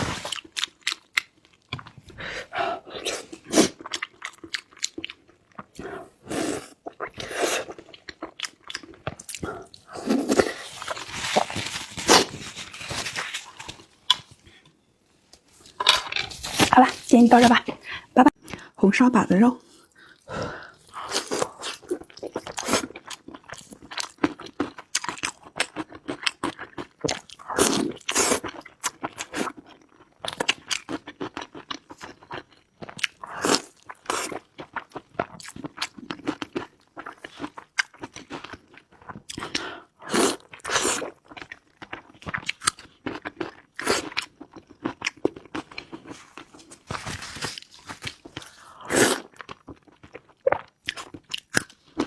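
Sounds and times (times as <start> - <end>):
person chewing and crunching food: 0.0 - 14.7, 19.6 - 52.0.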